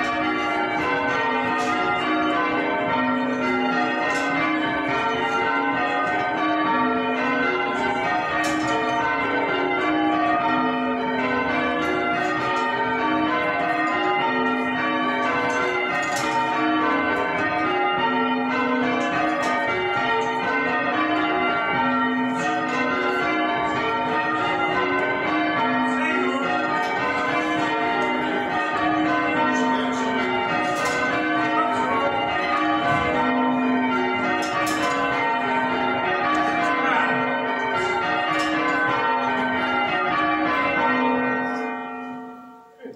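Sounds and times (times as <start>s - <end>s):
church bells ringing changes: 0.0s - 42.9s.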